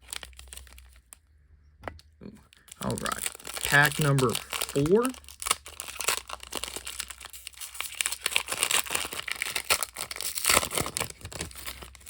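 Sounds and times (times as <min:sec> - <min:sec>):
wrapper tearing and crinkling: 0:00.0 - 0:01.2, 0:02.5 - 0:12.0.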